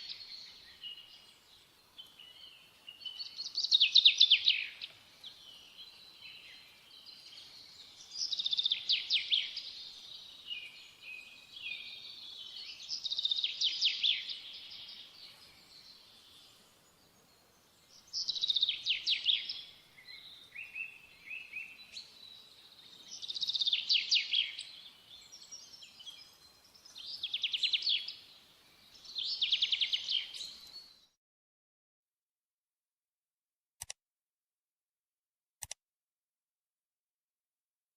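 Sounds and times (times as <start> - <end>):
quiet bird twittering: 0.0 - 31.2.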